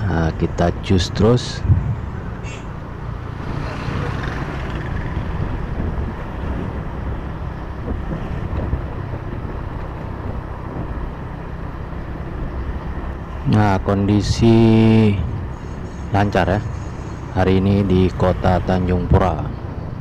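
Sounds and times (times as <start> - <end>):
vehicle engine and road noise: 0.0 - 20.0
wind buffeting microphone: 0.0 - 20.0.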